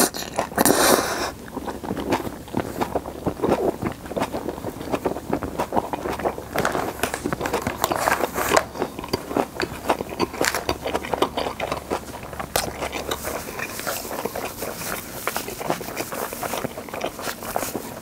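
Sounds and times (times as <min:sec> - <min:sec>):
crisp crunching bites: 0:00.0 - 0:18.0
wet smacking chewing: 0:00.0 - 0:18.0.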